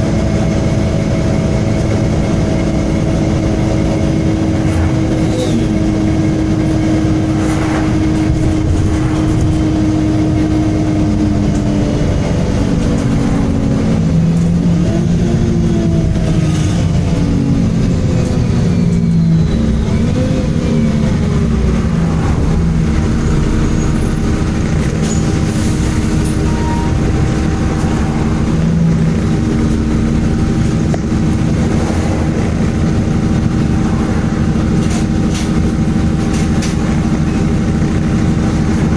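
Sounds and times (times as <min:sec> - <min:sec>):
bus diesel engine drone: 0:00.0 - 0:38.9
road rumble: 0:00.0 - 0:38.9.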